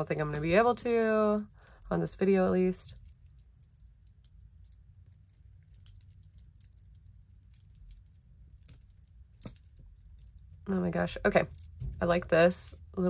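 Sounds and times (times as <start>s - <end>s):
jewelry chain and beads clinking: 0.0s - 12.4s.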